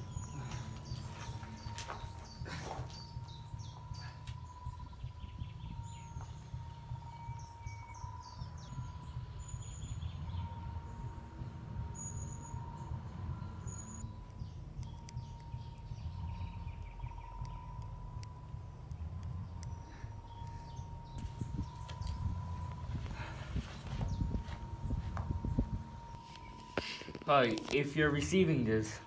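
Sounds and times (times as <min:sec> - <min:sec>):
bird chirps: 0:00.0 - 0:27.0
low rumble: 0:00.0 - 0:28.4.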